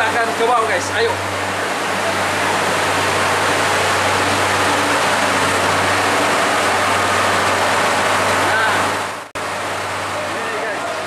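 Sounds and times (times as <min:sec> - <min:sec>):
constant low hum: 0:00.0 - 0:11.0
diesel machinery running: 0:00.0 - 0:11.0.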